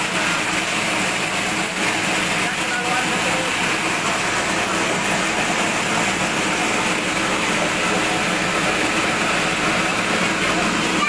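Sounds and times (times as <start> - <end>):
shredding machine running: 0.0 - 11.0.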